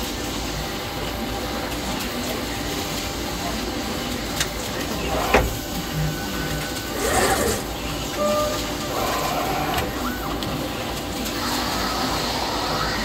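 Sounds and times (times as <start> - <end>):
printer machine running: 0.0 - 13.0.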